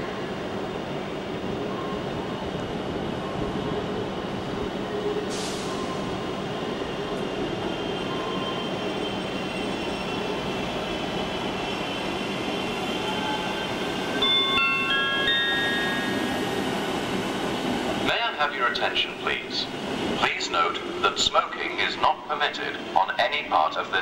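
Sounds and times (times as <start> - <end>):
train rolling past: 0.0 - 24.0.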